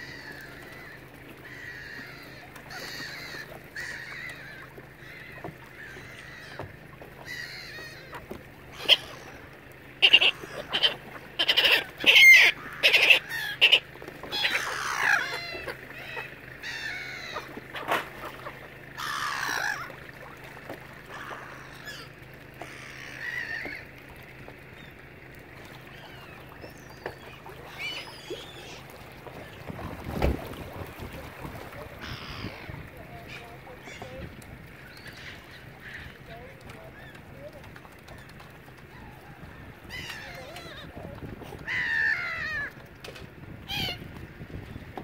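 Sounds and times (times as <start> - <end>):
waterbirds calling: 0.0 - 45.0.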